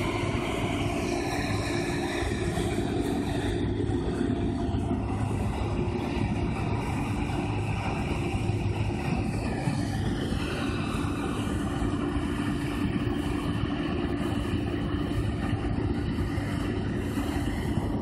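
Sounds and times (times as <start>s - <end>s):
deep engine drone: 0.0s - 18.0s.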